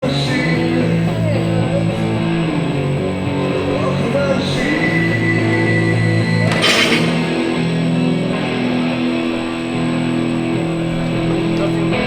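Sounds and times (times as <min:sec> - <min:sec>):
guitar rock music: 0:00.0 - 0:12.0.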